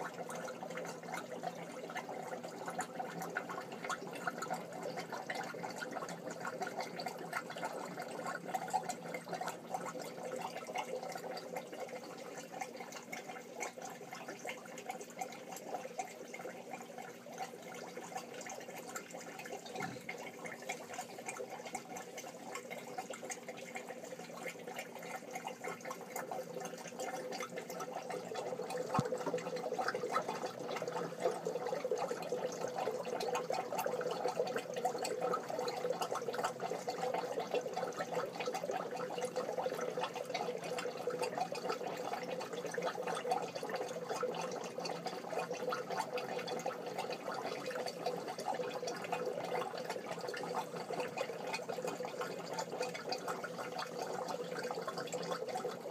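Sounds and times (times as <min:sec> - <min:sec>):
aquarium filter bubbling: 0:00.0 - 0:55.9.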